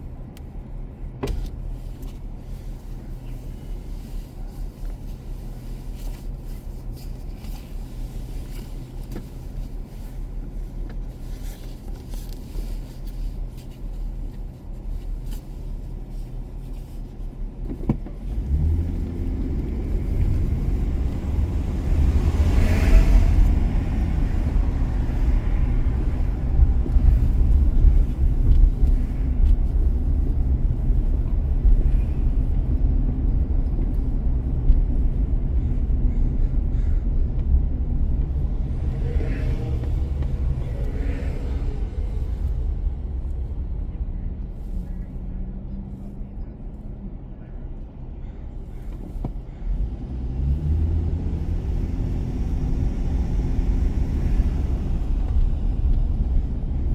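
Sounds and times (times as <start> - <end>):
car engine rumble: 0.0 - 56.9
road noise: 0.0 - 56.9.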